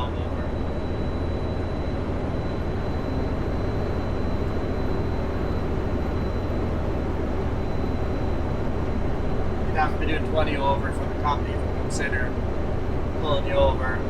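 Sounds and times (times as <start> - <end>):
faint high whine: 0.0 - 14.0
truck engine and tyres droning: 0.0 - 14.0.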